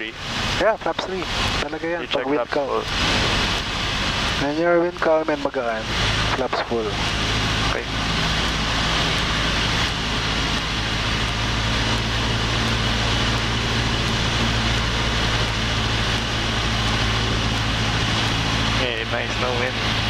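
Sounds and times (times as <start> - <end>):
aircraft engine humming: 0.0 - 20.0.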